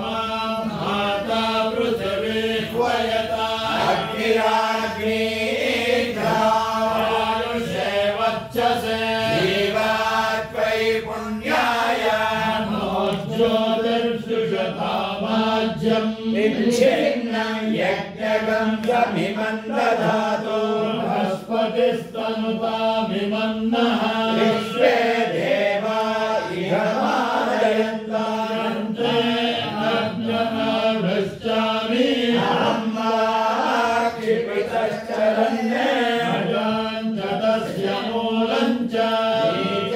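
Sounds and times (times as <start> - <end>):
voices chanting together: 0.0 - 39.9.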